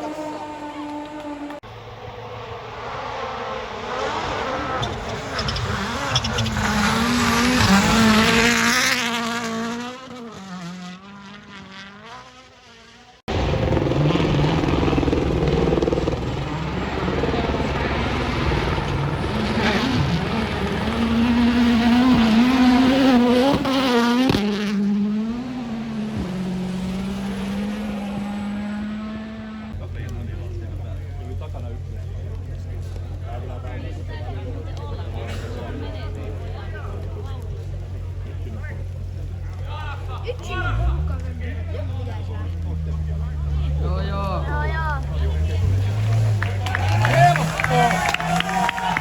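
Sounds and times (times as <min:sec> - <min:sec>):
rally car engine revving: 0:00.0 - 0:49.0
second car engine running: 0:00.0 - 0:49.0.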